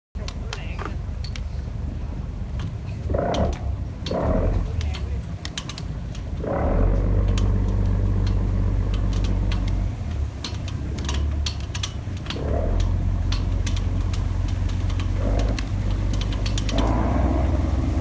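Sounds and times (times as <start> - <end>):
boat diesel engine beating: 0.2 - 18.0.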